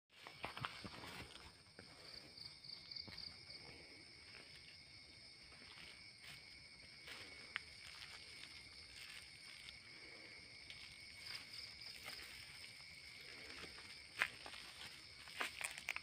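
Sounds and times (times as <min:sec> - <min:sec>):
crickets trilling: 0:00.2 - 0:16.0.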